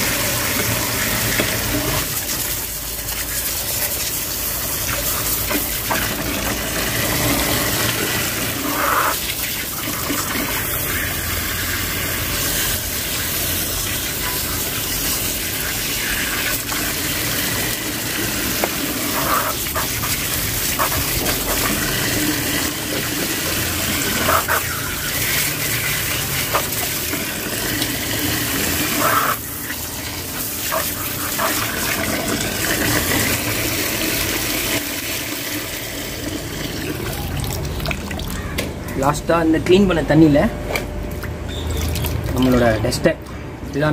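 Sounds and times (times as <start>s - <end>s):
water pouring into a tub: 0.0s - 38.5s, 41.2s - 42.9s.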